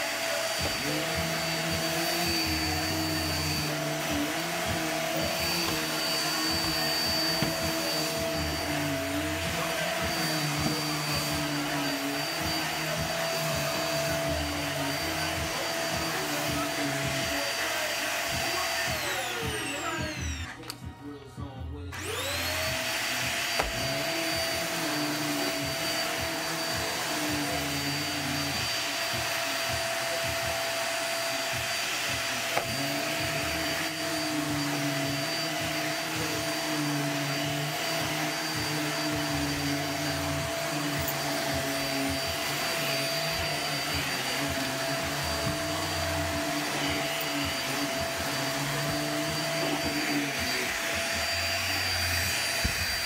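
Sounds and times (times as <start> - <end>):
vacuum cleaner running on carpet: 0.0 - 20.8, 21.9 - 53.0.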